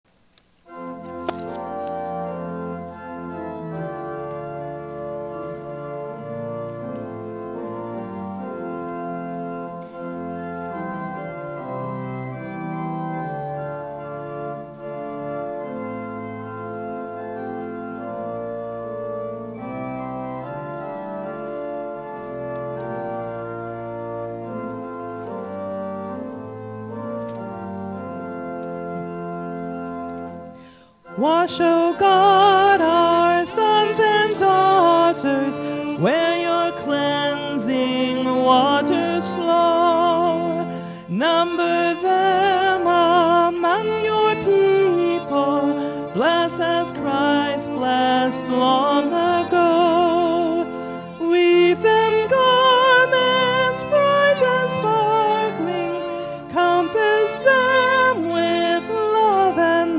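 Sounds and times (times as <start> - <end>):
church organ playing hymn: 0.1 - 59.9.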